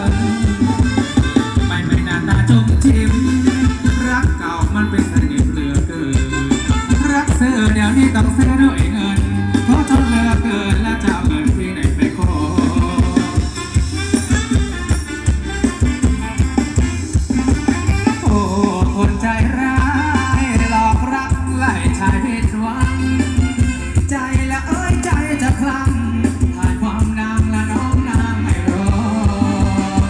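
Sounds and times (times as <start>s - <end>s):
live band dance music: 0.0s - 30.0s.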